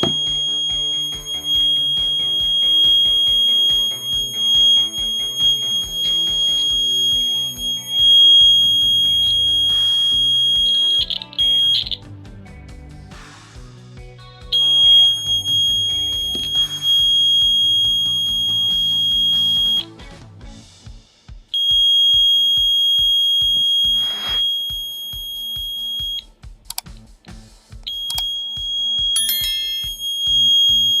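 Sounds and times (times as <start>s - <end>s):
alarm buzzer high-pitched tone: 0.0s - 11.9s, 14.6s - 19.8s, 21.6s - 26.2s, 27.9s - 31.0s
background music with steady beat: 0.0s - 31.0s.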